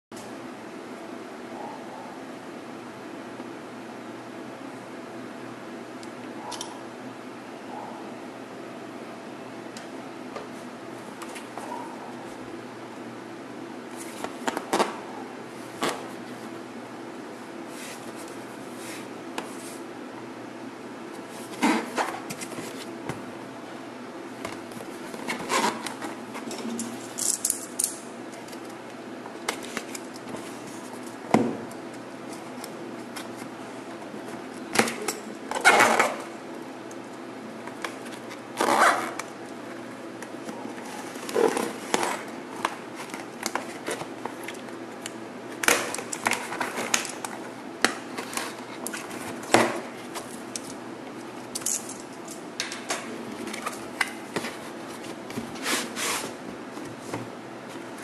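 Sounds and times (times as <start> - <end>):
faint steady hum: 0.1 - 58.0.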